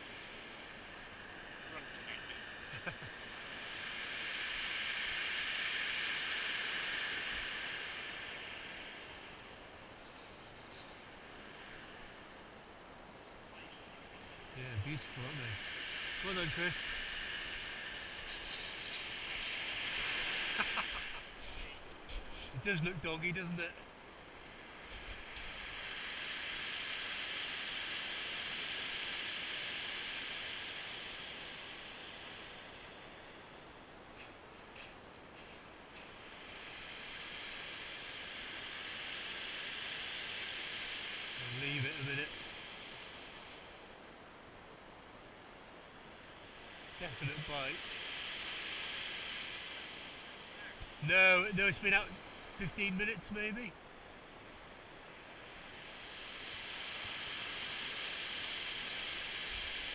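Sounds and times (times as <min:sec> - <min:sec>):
wave surging over pebbles: 0:00.0 - 0:59.9.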